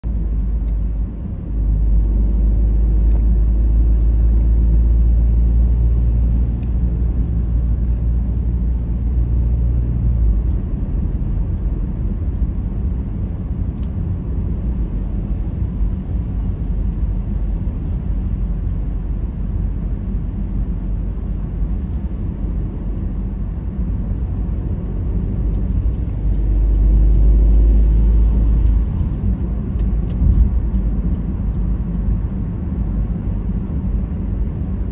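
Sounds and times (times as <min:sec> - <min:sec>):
car engine and tyres rumbling: 0:00.0 - 0:34.9.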